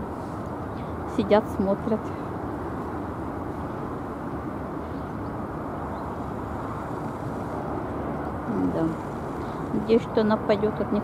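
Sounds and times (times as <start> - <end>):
distant city traffic hum: 0.0 - 11.0.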